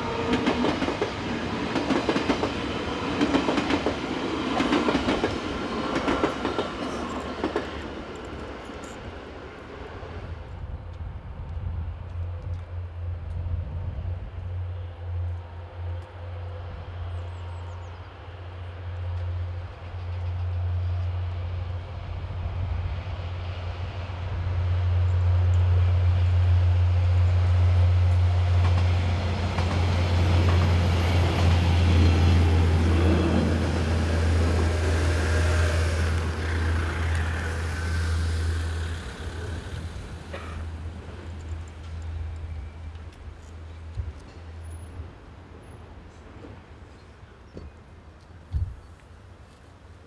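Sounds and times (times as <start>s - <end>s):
train passing on tracks: 0.0s - 50.0s.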